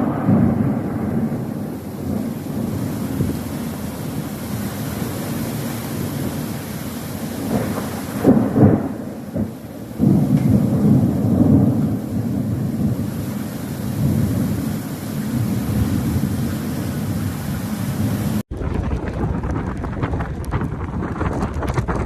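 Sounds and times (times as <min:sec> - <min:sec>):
rain: 0:00.0 - 0:22.0
rolling thunder: 0:00.0 - 0:22.0.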